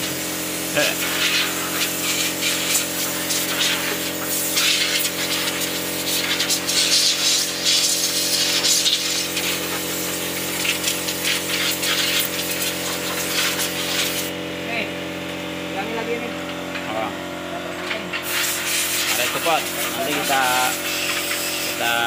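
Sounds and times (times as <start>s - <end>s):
hiss: 0.0s - 14.3s, 18.2s - 22.0s
steady machine drone: 0.0s - 22.0s.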